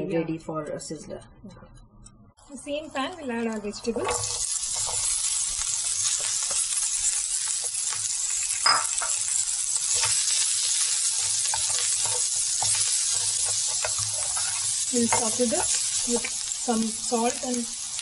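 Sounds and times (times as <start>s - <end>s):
vegetables sizzling in oil: 2.6s - 18.0s.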